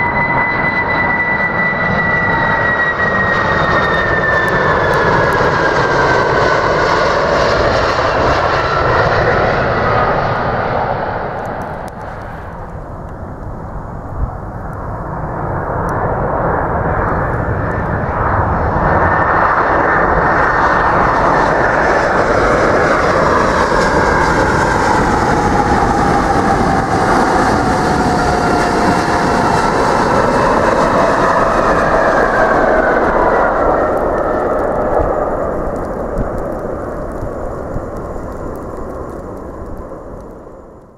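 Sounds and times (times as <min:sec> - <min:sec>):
jet engine roar: 0:00.0 - 0:40.9
jet engine whine: 0:00.0 - 0:40.9.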